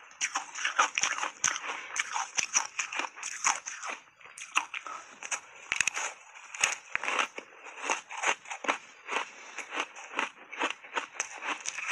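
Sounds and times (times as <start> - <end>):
ice being bitten and crunched: 0.1 - 11.9.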